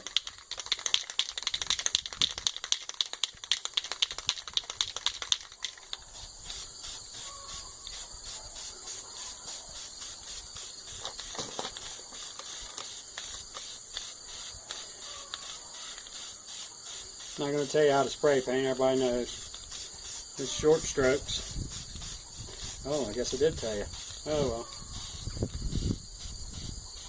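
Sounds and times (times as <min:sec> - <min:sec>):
spray can ball rattling: 0:00.0 - 0:27.0
spray paint hissing: 0:00.0 - 0:27.0.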